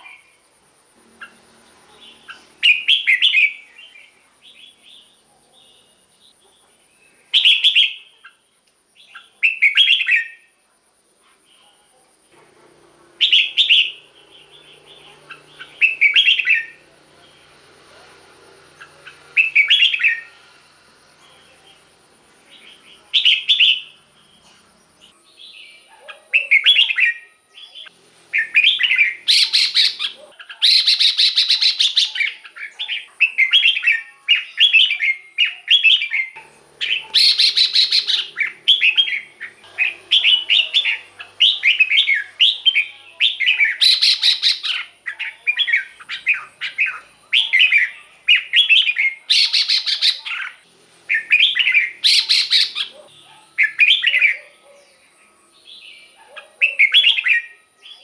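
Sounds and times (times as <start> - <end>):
bird chirping song: 0.0 - 10.5, 13.0 - 58.0.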